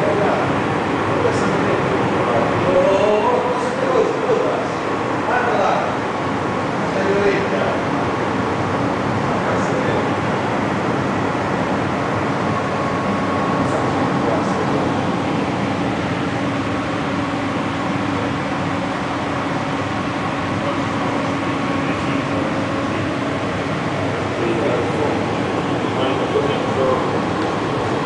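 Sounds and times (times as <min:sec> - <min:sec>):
machinery hum and hiss: 0:00.0 - 0:28.0.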